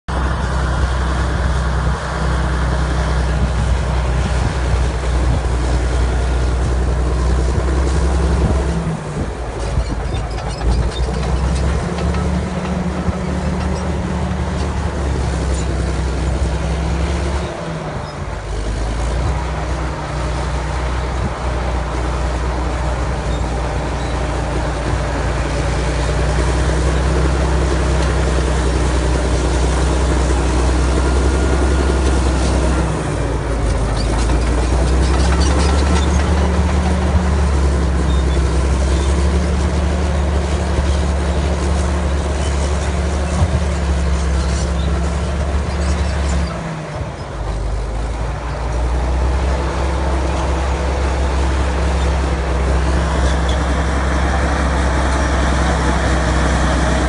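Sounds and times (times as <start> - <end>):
dozer diesel engine running hard: 0.1 - 57.0.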